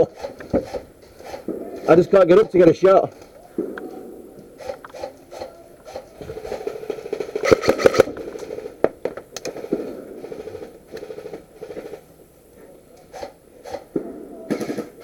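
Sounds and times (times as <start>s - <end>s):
airsoft guns firing: 0.0s - 12.1s, 13.1s - 15.0s.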